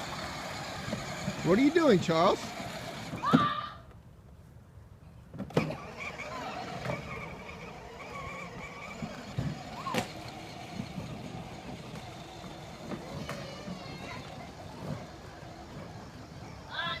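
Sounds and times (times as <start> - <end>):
truck humming: 0.0 - 3.2, 5.6 - 17.0.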